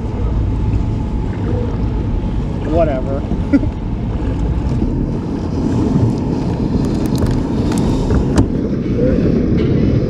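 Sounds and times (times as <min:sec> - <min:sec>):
choppy water around boat: 0:00.0 - 0:10.0
wind rumble: 0:00.0 - 0:10.0.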